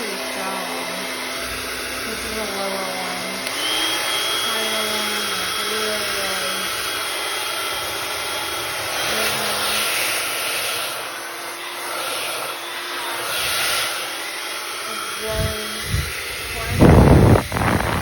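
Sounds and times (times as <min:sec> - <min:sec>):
hair dryer blowing air: 0:00.0 - 0:18.0.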